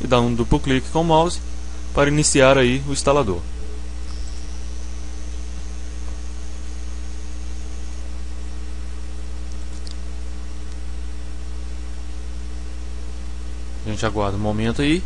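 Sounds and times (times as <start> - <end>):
background hiss: 0.0 - 15.0
faint high whine: 0.0 - 15.0
low electrical hum: 0.0 - 15.0.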